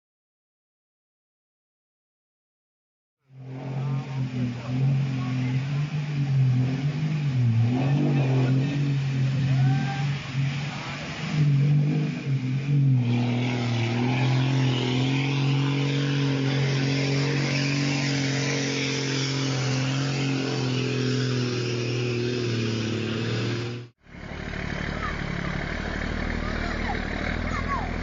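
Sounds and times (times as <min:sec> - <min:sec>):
road and wind noise: 0:03.3 - 0:28.0
truck engine drone: 0:03.3 - 0:28.0.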